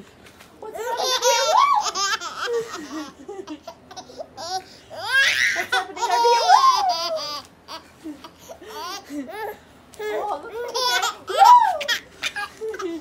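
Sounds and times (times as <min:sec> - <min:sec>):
baby laughing: 0:00.7 - 0:13.0.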